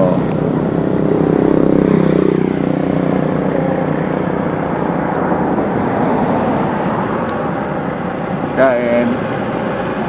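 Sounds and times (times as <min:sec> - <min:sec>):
engine hum: 0:00.0 - 0:10.0
rumble of motor traffic: 0:00.0 - 0:10.0.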